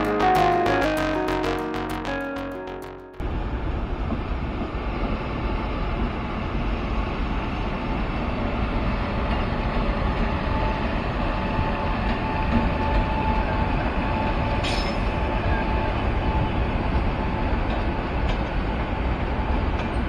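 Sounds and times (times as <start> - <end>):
train wheels rumbling on rail: 3.2 - 20.0.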